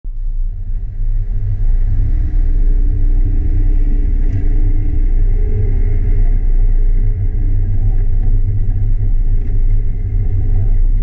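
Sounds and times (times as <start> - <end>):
off-road vehicle engine rumbling: 0.1 - 11.0.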